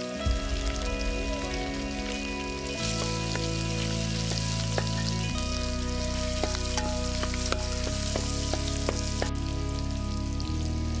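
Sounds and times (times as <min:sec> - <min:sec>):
background music with held chords: 0:00.0 - 0:11.0
onions sizzling in hot oil: 0:00.0 - 0:11.0
sharp crackles: 0:00.0 - 0:11.0.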